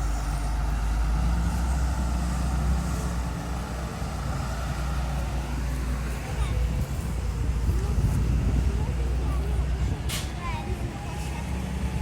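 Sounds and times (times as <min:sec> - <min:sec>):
heavy vehicle engine rumbling: 0:00.0 - 0:12.0.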